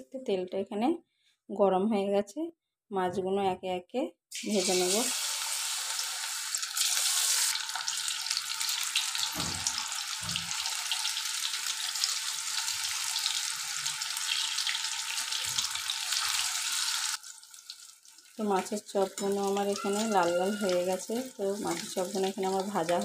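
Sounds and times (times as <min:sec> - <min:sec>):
fish deep-frying in oil: 0:04.3 - 0:23.0.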